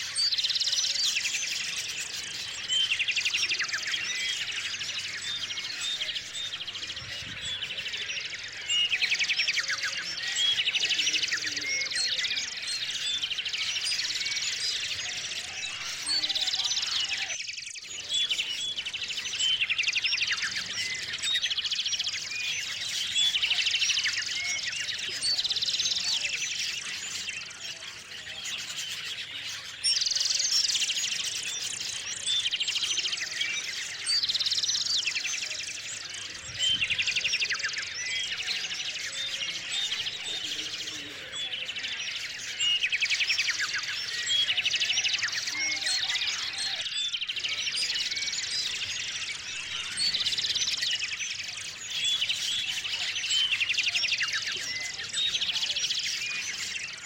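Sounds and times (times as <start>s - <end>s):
high bird chirps: 0.0s - 57.0s
songbirds trilling: 0.0s - 57.0s.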